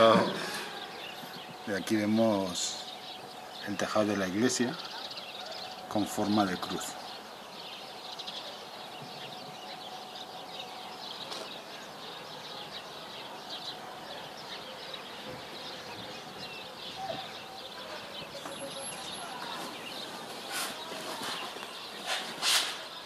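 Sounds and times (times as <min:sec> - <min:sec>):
outdoor background hum: 0:00.0 - 0:23.0
small birds chirping: 0:00.0 - 0:23.0.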